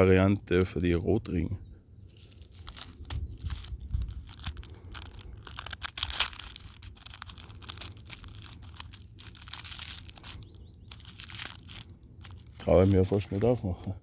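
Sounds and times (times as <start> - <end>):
paper wrapping crinkling and tearing: 2.2 - 13.9.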